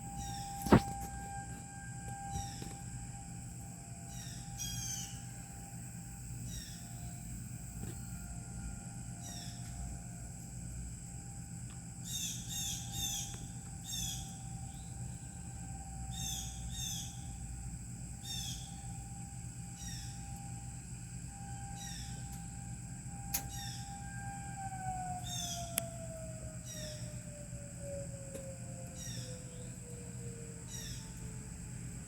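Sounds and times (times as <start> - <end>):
warning siren: 0.0 - 32.0.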